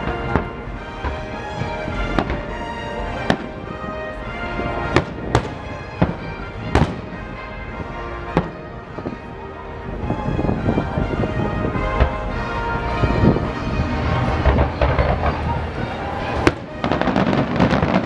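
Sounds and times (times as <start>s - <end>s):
fireworks booming: 0.0s - 3.9s, 4.5s - 12.4s, 13.0s - 18.0s.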